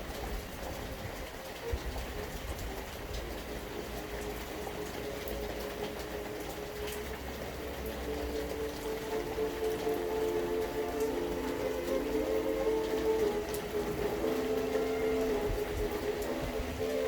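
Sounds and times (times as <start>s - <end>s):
running water: 0.0s - 17.0s
steady rain: 0.0s - 17.0s.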